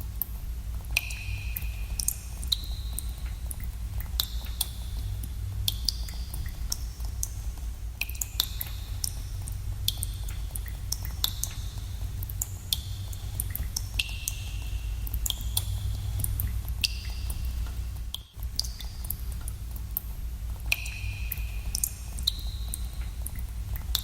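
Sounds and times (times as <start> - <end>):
steady low rumble: 0.0 - 24.0
water drops plinking in cave: 0.9 - 7.4, 8.0 - 20.1, 20.7 - 24.0.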